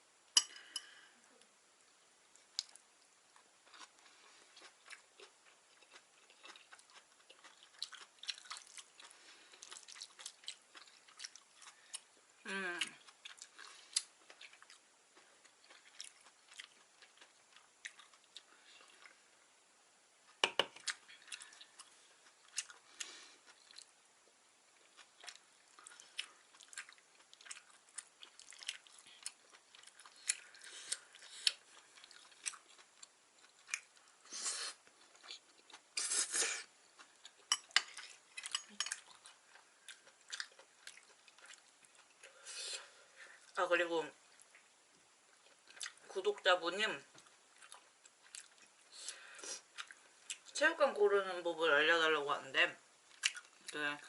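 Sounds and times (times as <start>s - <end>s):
close chewing: 3.4s - 19.2s, 20.3s - 34.2s, 34.8s - 42.4s, 44.3s - 46.4s, 47.1s - 50.6s, 53.1s - 53.8s.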